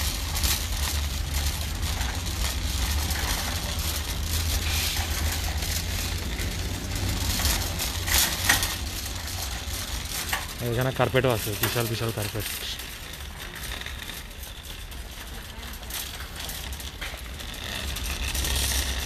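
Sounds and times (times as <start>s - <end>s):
shopping cart wheels rumbling: 0.0s - 19.0s
wire basket rattling: 0.0s - 19.0s.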